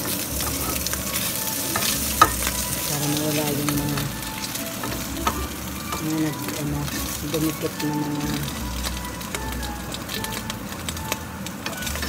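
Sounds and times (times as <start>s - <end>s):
frying pan sizzling: 0.0s - 12.0s.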